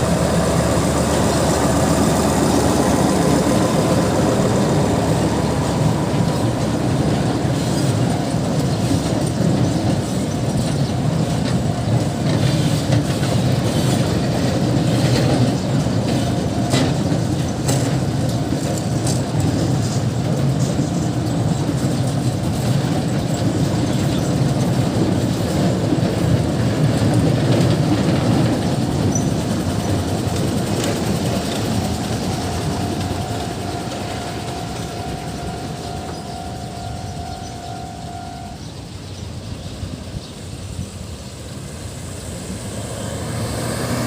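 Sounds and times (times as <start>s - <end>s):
train rumbling past: 0.0s - 44.0s
wheels clicking over rail joints: 0.0s - 44.0s.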